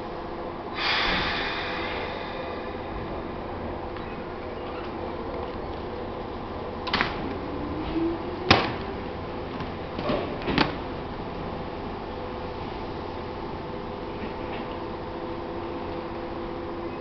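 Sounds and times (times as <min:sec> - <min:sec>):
electric train running hum: 0:00.0 - 0:17.0.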